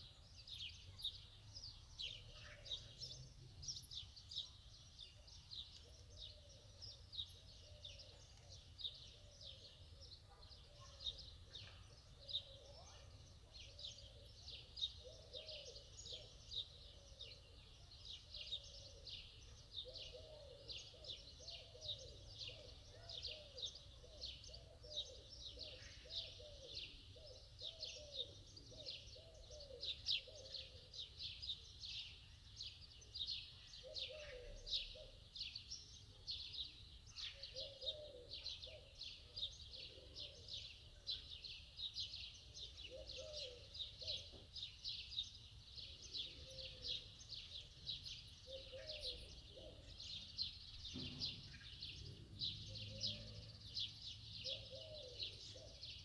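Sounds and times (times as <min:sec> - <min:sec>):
birds chirping: 0:00.0 - 0:56.0
lower curved bird calls: 0:01.7 - 0:56.0.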